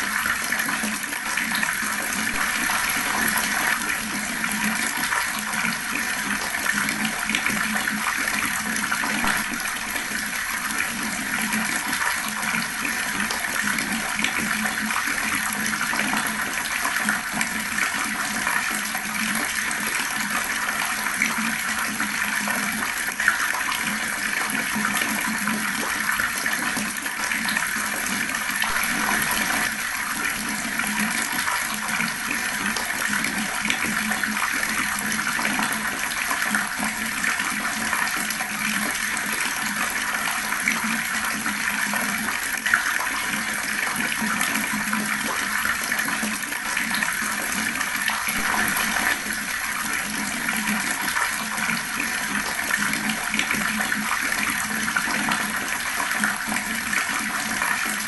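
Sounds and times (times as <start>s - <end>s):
water running from a tap: 0.0s - 58.0s.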